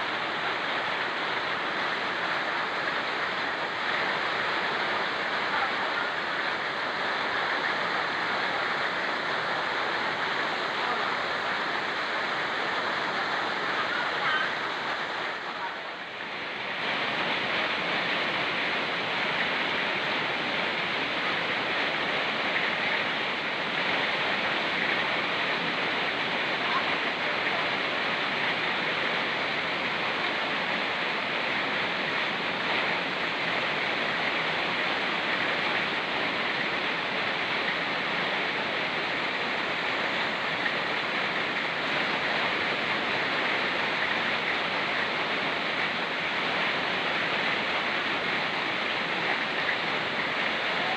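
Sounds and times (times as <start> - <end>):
rain falling: 0.0 - 50.9
river rushing: 0.0 - 50.9.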